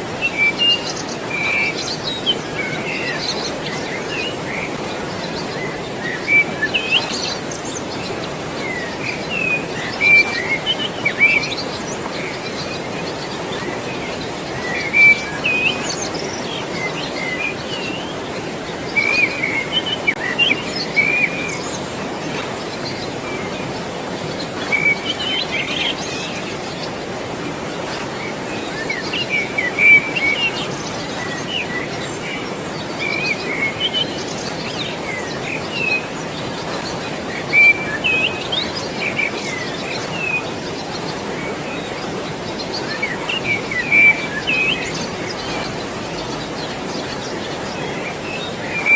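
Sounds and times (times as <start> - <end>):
birds chirping: 0.0 - 48.9
water rushing: 0.0 - 48.9.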